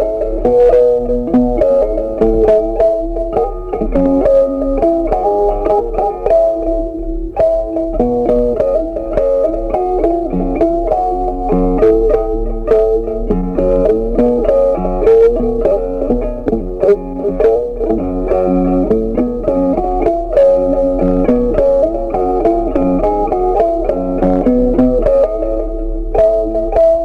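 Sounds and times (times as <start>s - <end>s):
plucked guitar melody: 0.0s - 27.0s.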